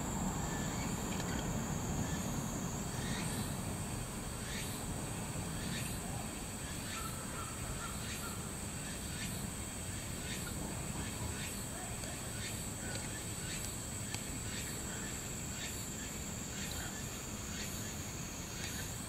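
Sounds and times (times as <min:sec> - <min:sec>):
faint high whine: 0:00.0 - 0:19.0
low outdoor rumble: 0:00.0 - 0:19.0.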